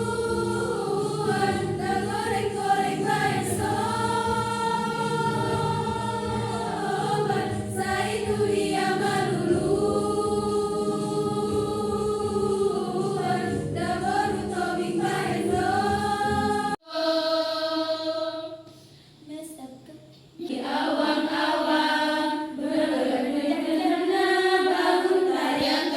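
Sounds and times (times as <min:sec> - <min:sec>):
choir singing: 0:00.0 - 0:18.7, 0:20.4 - 0:25.9.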